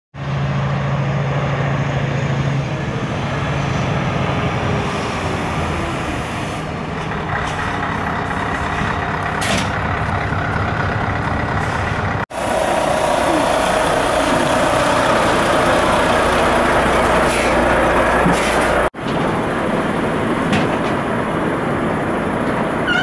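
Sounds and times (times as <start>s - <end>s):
diesel truck engine humming: 0.2s - 23.0s.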